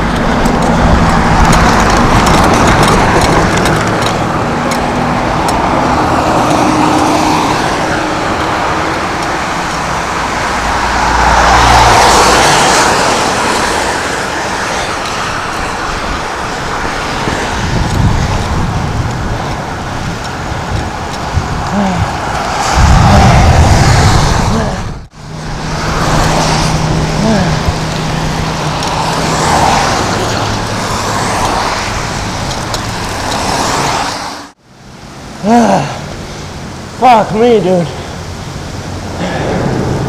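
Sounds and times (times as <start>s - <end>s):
vehicles passing: 0.0s - 40.0s.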